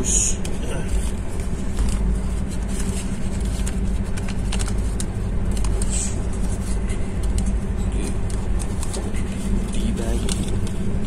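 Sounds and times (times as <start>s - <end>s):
train running low rumble: 0.0s - 11.0s
paper and plastic packets crackling: 0.3s - 11.0s.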